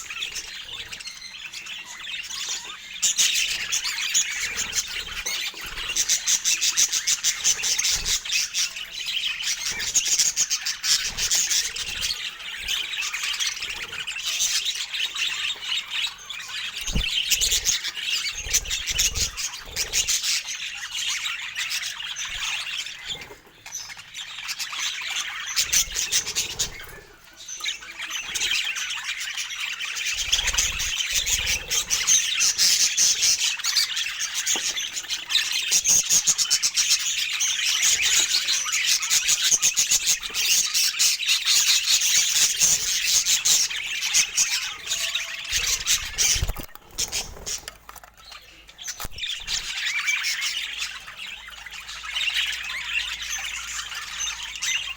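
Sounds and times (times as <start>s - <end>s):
budgerigars chattering: 0.0s - 54.9s.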